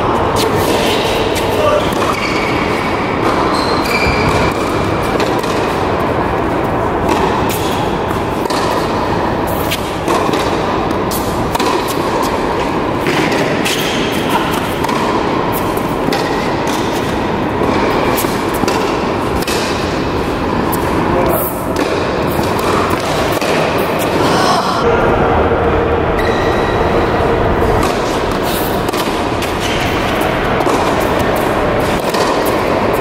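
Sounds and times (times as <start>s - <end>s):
reverberant hall noise: 0.0s - 33.0s
rackets striking tennis ball: 0.2s - 24.2s, 27.5s - 33.0s
tennis ball bouncing: 0.3s - 24.2s, 27.6s - 33.0s.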